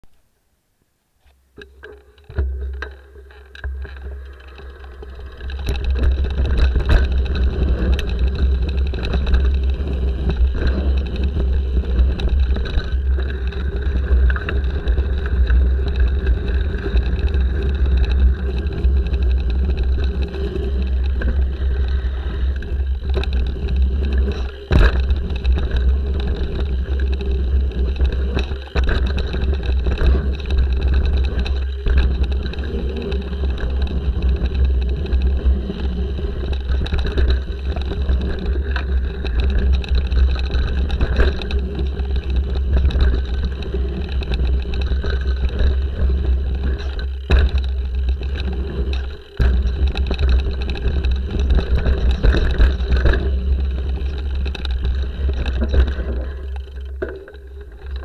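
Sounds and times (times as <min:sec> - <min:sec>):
bike knocking and rattling: 0:01.6 - 0:58.0
bike rolling on gravel trail: 0:01.7 - 0:58.0.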